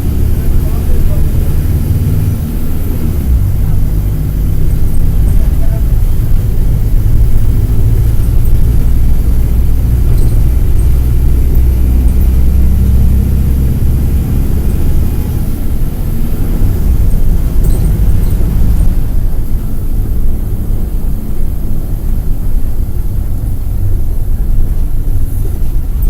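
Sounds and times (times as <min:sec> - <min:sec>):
bus diesel engine droning: 0:00.0 - 0:26.0.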